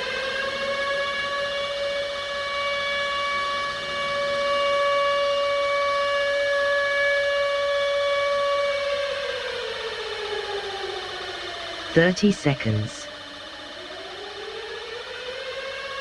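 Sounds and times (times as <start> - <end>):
air-raid siren wailing: 0.0 - 11.1, 13.9 - 16.0.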